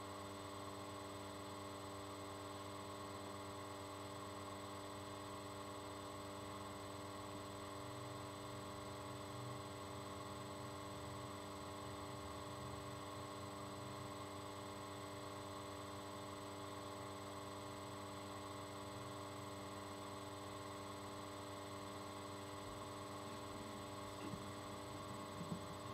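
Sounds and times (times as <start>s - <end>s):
electrical hum and whine: 0.0s - 25.9s.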